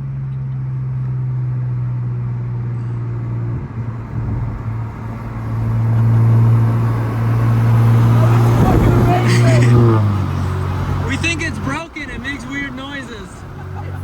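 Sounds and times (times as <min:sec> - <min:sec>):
car engine through exhaust: 0:00.0 - 0:14.0.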